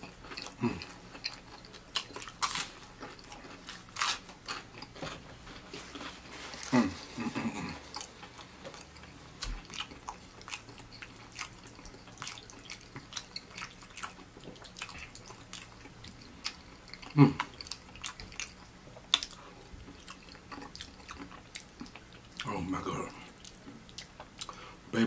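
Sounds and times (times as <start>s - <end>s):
wet chewing and mouth clicks: 0.0s - 6.8s, 7.4s - 22.5s, 23.3s - 24.6s.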